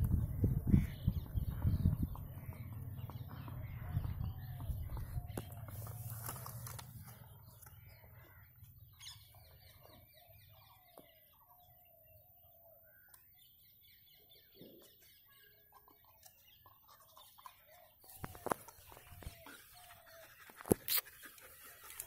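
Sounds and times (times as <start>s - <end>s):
faint bird calls: 0.5s - 22.0s.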